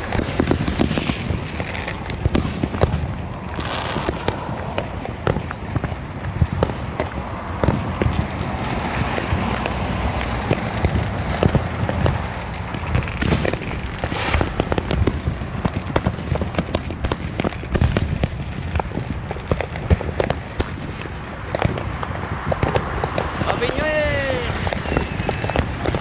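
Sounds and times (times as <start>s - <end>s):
fireworks and firecrackers popping: 0.0s - 26.0s.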